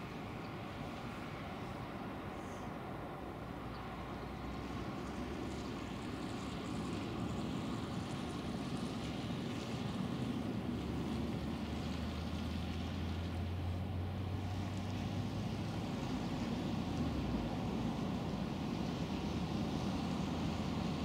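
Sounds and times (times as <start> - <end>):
distant road traffic rumble: 0.0 - 21.0.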